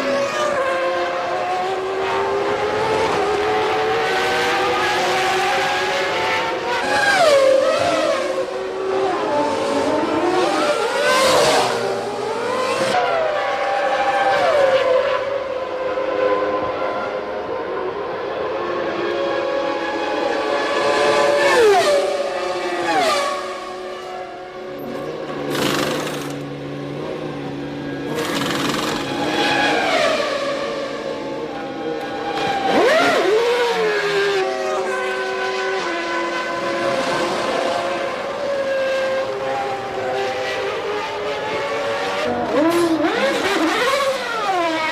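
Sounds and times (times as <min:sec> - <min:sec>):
race car engines at high revs: 0:00.0 - 0:44.9.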